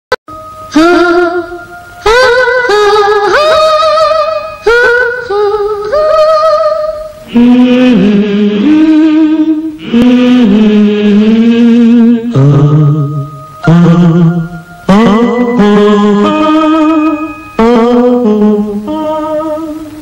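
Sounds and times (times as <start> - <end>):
person singing long wavering notes: 0.3 - 20.0.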